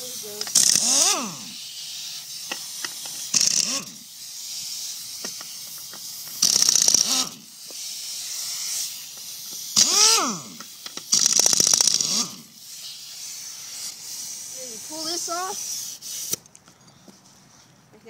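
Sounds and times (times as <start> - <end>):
impact wrench whining and hammering: 0.0 - 17.2.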